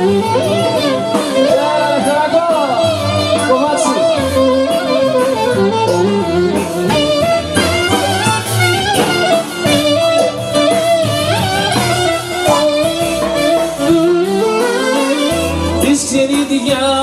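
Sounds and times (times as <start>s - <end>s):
instrumental folk dance music: 0.0s - 17.0s.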